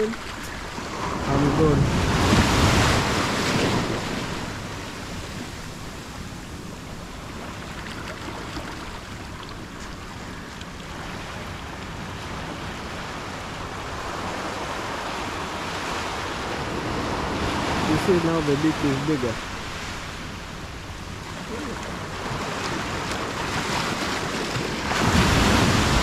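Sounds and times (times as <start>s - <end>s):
ocean waves on sandy beach: 0.0s - 26.0s.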